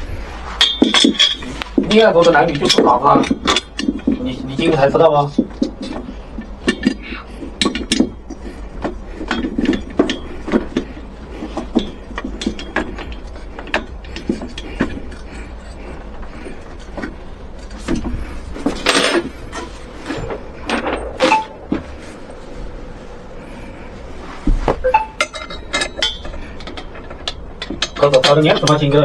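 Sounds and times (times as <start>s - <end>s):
hand tools clicking and knocking: 0.6s - 21.9s, 24.8s - 29.0s.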